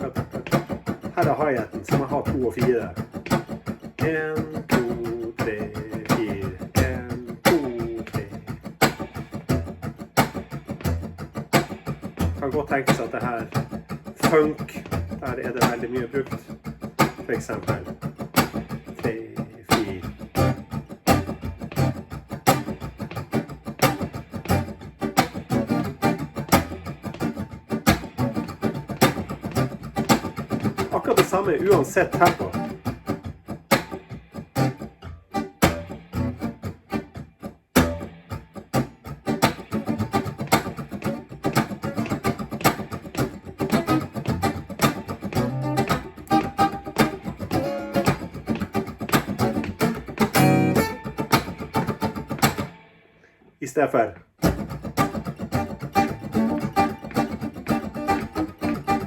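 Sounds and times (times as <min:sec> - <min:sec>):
funk guitar strumming: 0:00.0 - 0:59.0.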